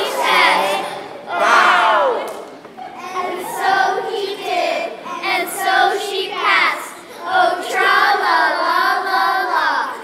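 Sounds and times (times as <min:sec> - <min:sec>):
children singing in chorus: 0:00.0 - 0:01.7, 0:02.9 - 0:10.0.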